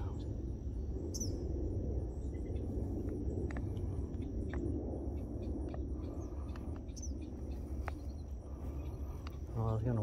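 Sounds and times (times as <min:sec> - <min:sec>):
high insect drone: 0:00.0 - 0:10.0
low microphone rumble: 0:00.0 - 0:10.0.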